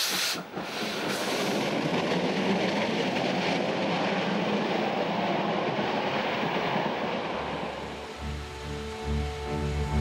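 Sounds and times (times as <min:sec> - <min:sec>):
steam locomotive running: 0:00.0 - 0:10.0.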